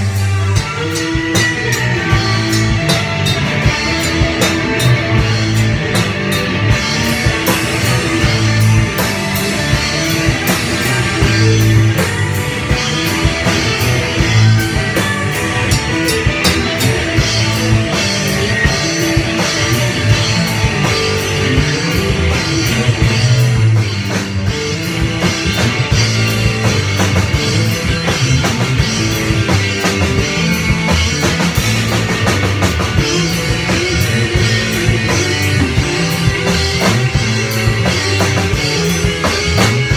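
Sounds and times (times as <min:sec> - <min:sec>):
drum kit with cymbals: 0:00.0 - 0:39.9
electric guitars playing: 0:00.0 - 0:39.9.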